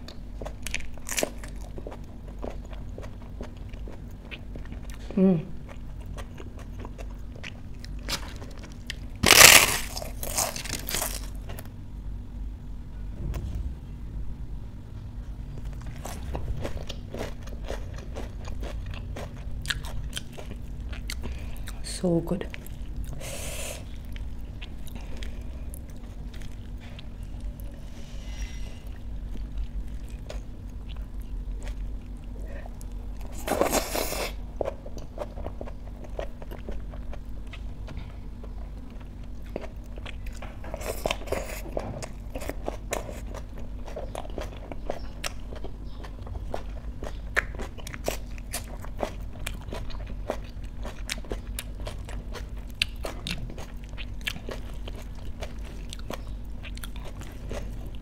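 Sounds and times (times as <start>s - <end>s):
chewing crunchy food: 0.0s - 11.7s, 15.5s - 21.8s, 22.4s - 27.8s, 28.9s - 58.0s.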